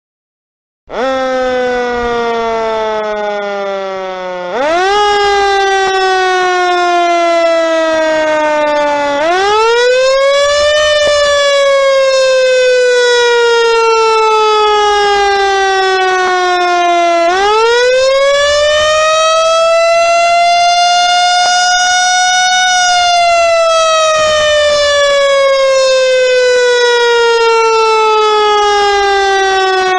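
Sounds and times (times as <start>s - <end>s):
fire engine siren wailing: 0.9s - 29.9s.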